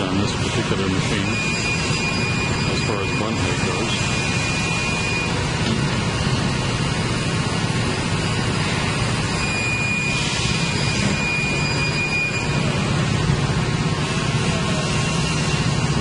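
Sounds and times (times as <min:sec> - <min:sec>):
thin high whine: 0:00.0 - 0:13.2.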